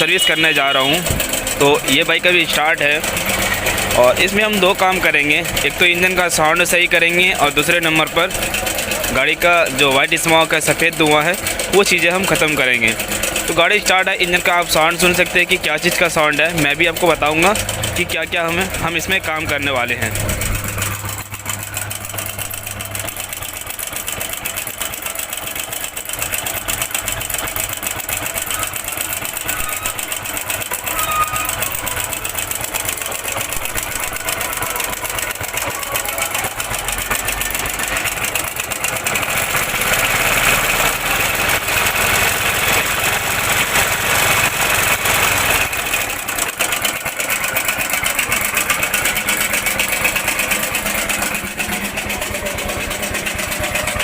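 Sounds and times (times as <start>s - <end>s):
motorcycle engine idling: 0.0s - 54.0s
timing chain metallic rattle: 0.0s - 54.0s.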